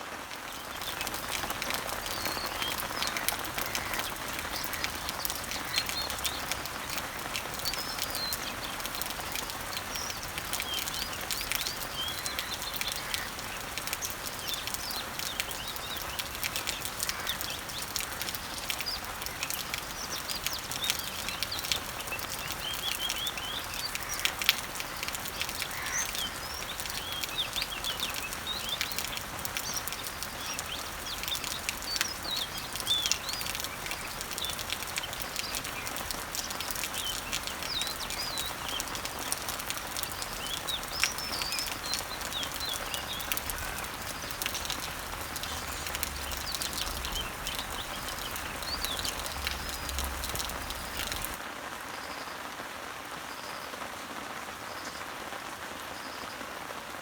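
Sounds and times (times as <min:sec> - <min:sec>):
rain pattering on leaves: 0:00.0 - 0:57.0
small birds chirping: 0:00.2 - 0:52.4.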